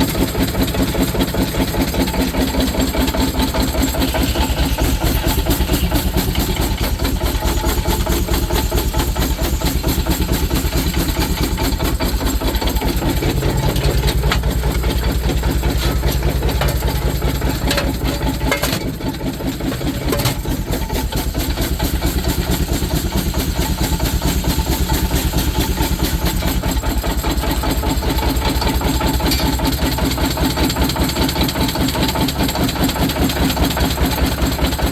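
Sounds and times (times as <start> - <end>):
steam engine running: 0.0 - 34.9.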